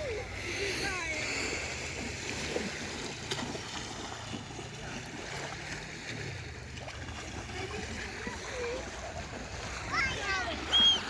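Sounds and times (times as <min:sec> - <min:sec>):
small waves washing on shore: 0:00.0 - 0:11.0.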